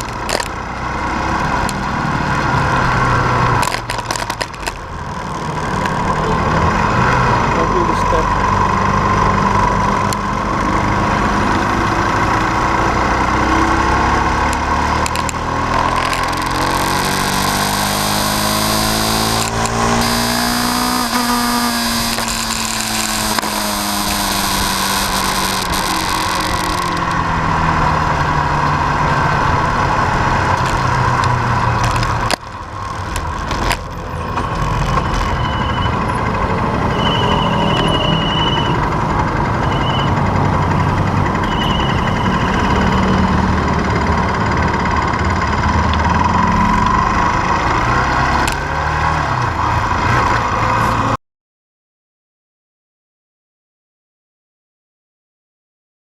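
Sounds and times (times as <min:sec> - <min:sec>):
vehicle engine running: 0:00.0 - 0:51.2.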